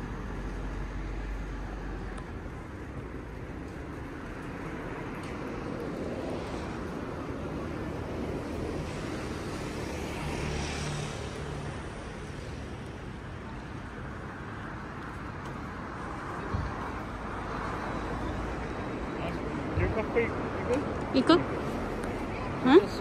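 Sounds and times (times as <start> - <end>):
car passing: 0.0 - 23.0
traffic noise: 0.0 - 23.0.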